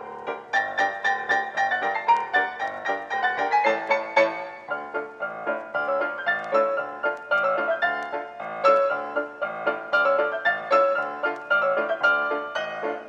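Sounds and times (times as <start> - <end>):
lively piano tune: 0.0 - 13.0.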